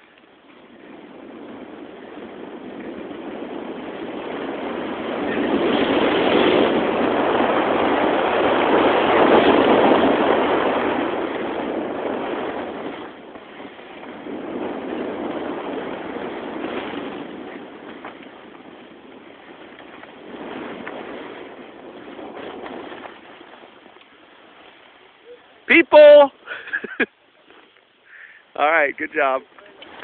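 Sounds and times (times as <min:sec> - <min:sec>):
wind on microphone: 0:00.0 - 0:27.1
skis sliding over snow: 0:00.0 - 0:30.0.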